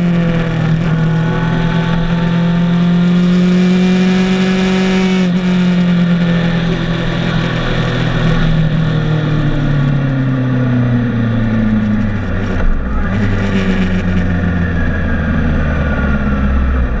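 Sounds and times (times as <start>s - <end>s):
motorcycle engine slowing: 0.0s - 17.0s.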